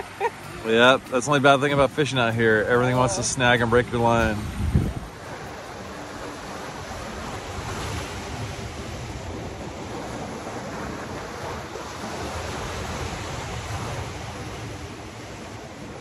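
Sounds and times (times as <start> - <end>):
surf breaking over rocks: 0.0 - 16.0.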